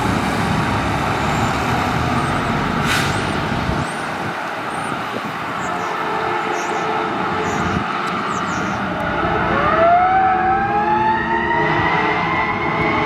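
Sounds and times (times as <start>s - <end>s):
emergency vehicle on road: 0.0s - 13.0s.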